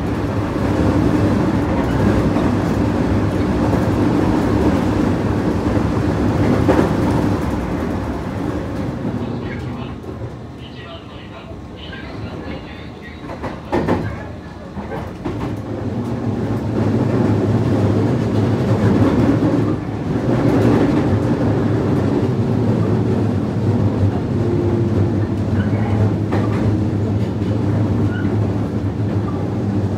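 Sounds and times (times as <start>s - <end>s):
train wheels rumbling: 0.0s - 29.9s.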